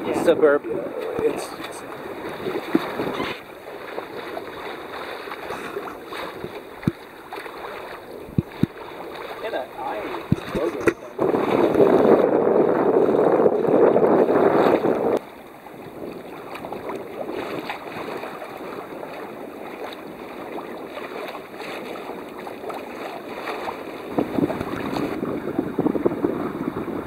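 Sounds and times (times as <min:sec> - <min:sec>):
wind buffeting microphone: 0:00.0 - 0:07.1, 0:07.9 - 0:27.0
water splashing against boat hull: 0:00.0 - 0:27.0.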